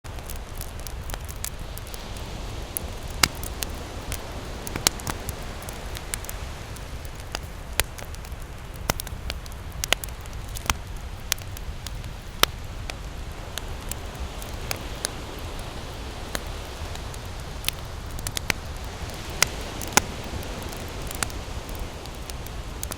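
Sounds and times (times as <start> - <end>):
fire crackling and popping: 0.0 - 22.9
low rumble of flames: 0.0 - 22.9.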